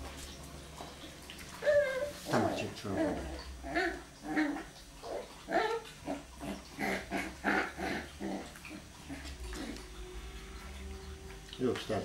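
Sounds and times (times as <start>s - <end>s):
dogs growling in play: 1.6s - 11.4s.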